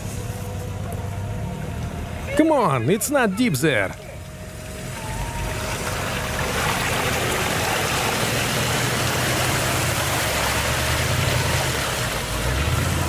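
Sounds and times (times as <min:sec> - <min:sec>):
car engine under load: 0:00.0 - 0:13.0
tyres splashing through mud and water: 0:02.3 - 0:13.0.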